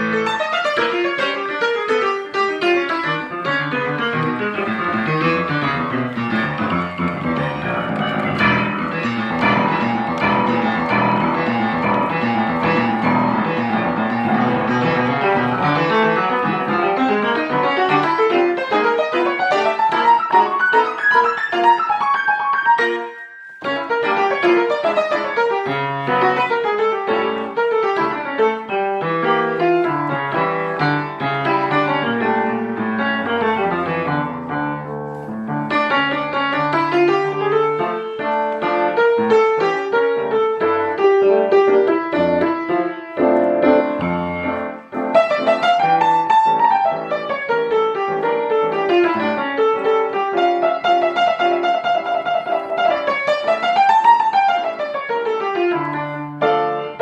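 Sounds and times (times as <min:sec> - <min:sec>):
solo piano music: 0:00.0 - 0:57.0.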